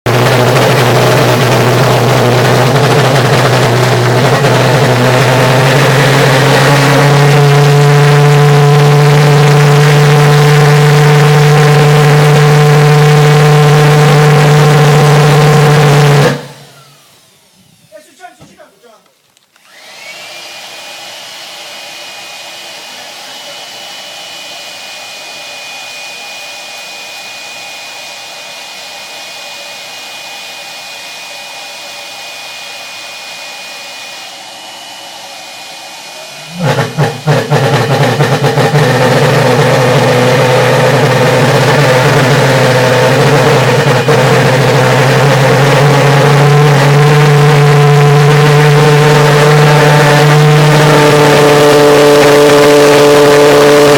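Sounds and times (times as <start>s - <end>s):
pulse jet engine buzzing: 0.0s - 18.2s, 19.6s - 53.9s.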